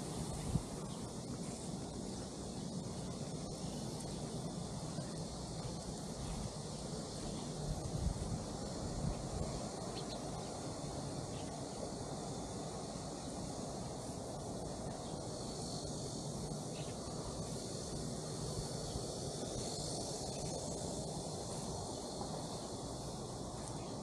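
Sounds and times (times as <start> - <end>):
high insect hum: 0.0 - 24.0.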